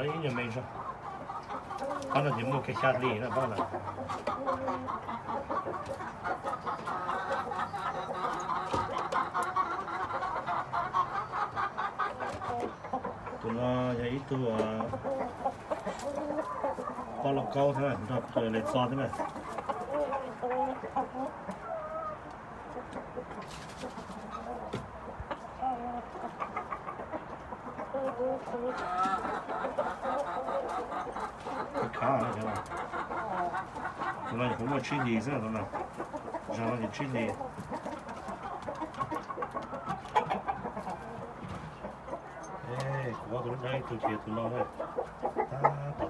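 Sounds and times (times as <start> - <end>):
young chickens clucking: 0.0 - 46.0.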